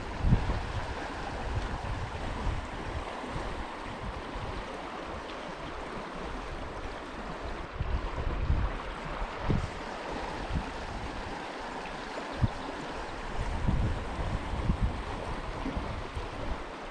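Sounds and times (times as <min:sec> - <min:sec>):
stream water flowing: 0:00.0 - 0:16.9
wind rumbling on microphone: 0:00.0 - 0:16.9.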